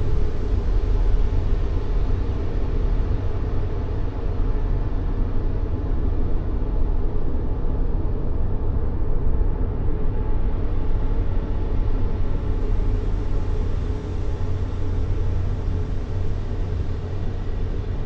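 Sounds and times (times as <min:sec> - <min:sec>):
rumbling white noise: 0:00.0 - 0:18.0.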